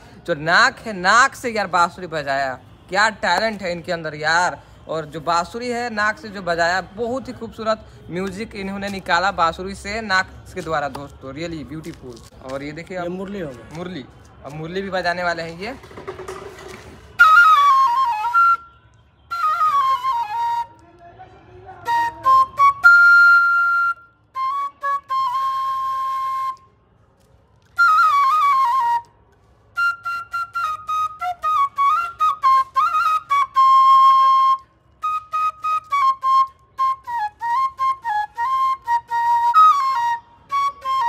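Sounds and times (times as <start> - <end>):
bamboo flute melody: 3.3 - 41.0.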